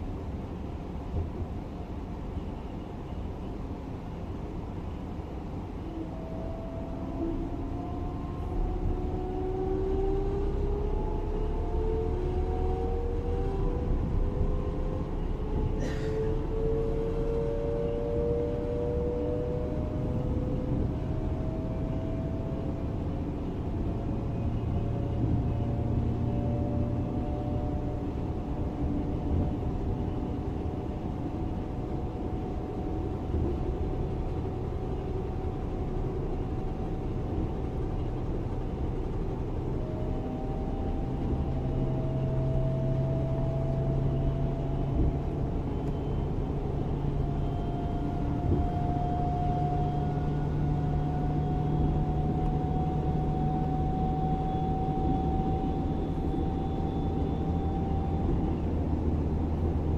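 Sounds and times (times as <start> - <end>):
train low rumble: 0.0 - 59.9
electric train traction whine: 5.8 - 59.9.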